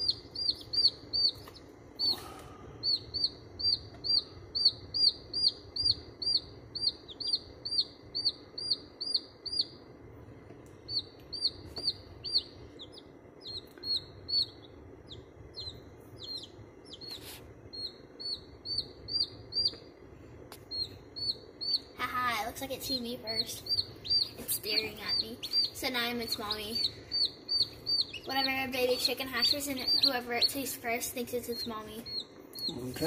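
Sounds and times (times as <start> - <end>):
chick peeping: 0.0 - 9.8, 10.9 - 19.9, 20.5 - 33.0.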